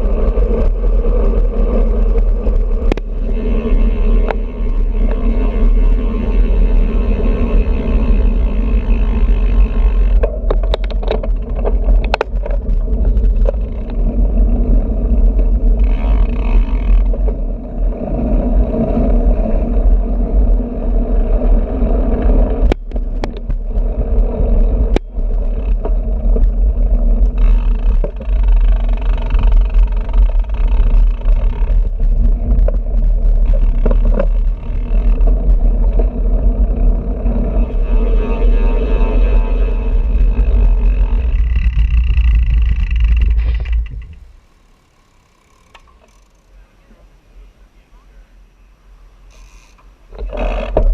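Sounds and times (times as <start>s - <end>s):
wind rumble: 0.0s - 44.9s
bicycle road noise: 0.0s - 50.9s.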